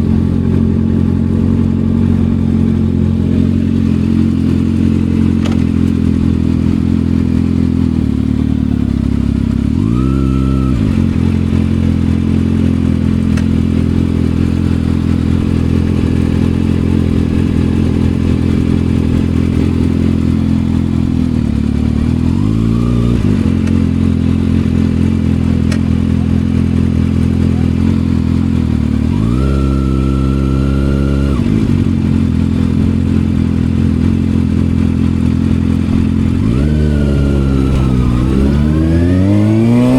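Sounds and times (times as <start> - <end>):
motorcycle engine idling: 0.0 - 39.9
motorcycle throttle blips: 0.0 - 39.9.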